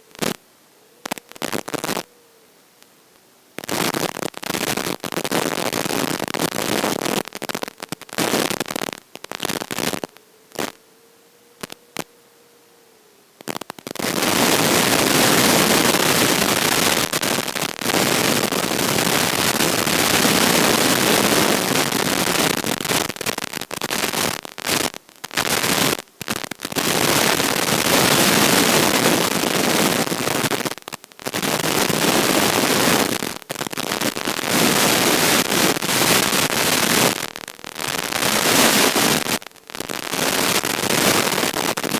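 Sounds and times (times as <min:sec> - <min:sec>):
crackling radio static: 0:00.0 - 0:41.9.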